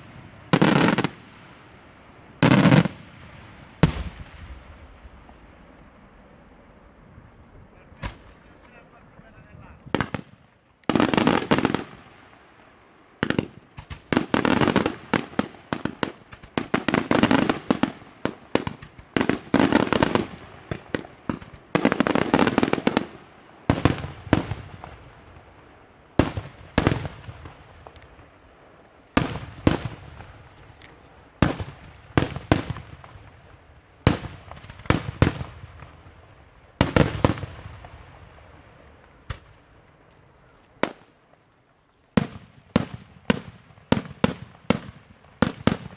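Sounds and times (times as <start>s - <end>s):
fireworks bangs with echoes: 0.0s - 39.8s, 40.8s - 41.1s, 42.2s - 45.9s.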